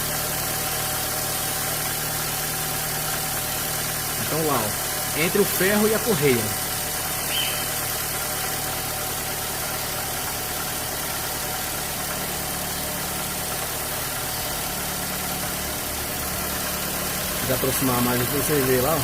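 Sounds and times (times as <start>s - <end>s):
car engine idling: 0.0s - 19.0s
alternator belt turning: 0.2s - 19.0s.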